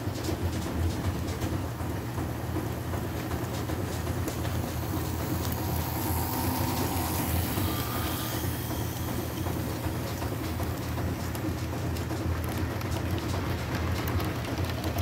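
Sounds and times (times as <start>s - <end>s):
wheels rolling on track: 0.0s - 15.0s
model train motor hum: 2.4s - 15.0s.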